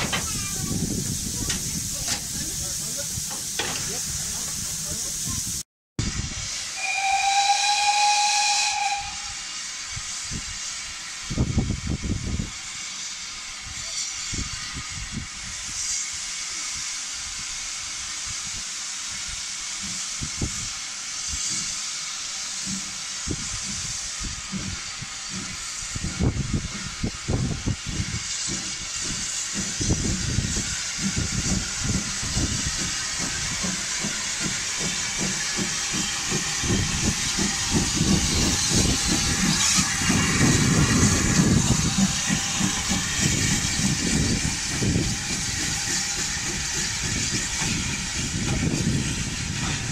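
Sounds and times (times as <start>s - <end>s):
steam hissing: 0.0s - 49.9s
train rumbling: 0.0s - 49.9s.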